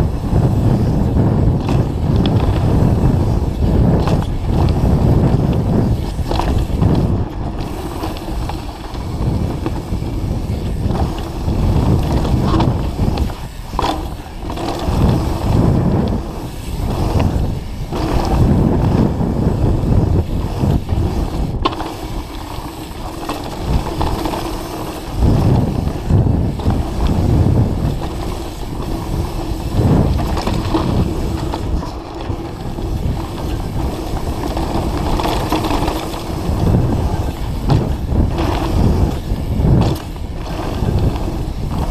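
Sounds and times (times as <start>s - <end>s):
bike rattling over bumps: 0.0s - 41.9s
tyres rumbling on dirt: 0.0s - 41.9s.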